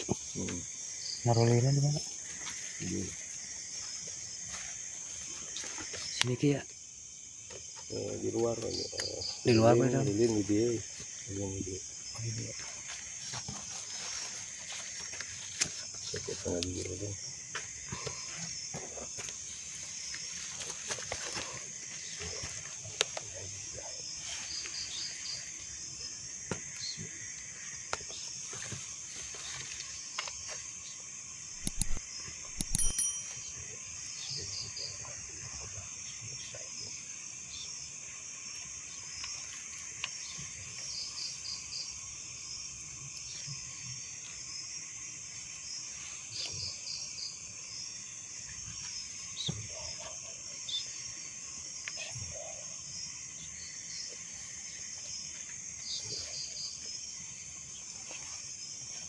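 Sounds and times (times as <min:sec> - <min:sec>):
insect quick chirps: 0:00.0 - 0:59.0
insect shrill drone: 0:00.0 - 0:59.0.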